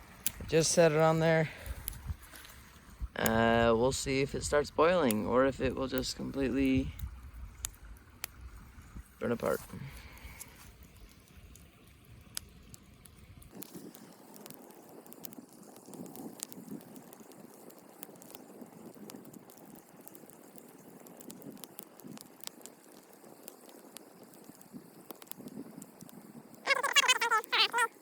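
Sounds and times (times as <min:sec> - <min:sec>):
soft hiss of water: 0:00.0 - 0:28.0
wood fire crackling and popping: 0:00.0 - 0:28.0.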